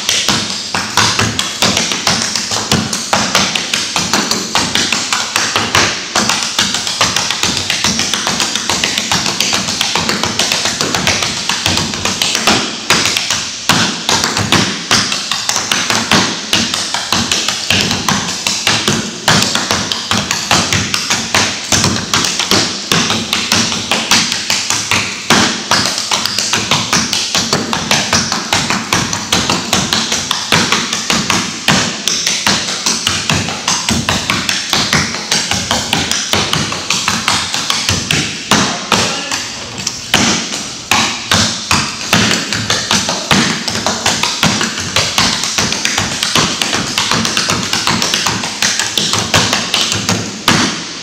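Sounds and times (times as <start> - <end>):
tap shoes on wooden floor: 0.0 - 51.0.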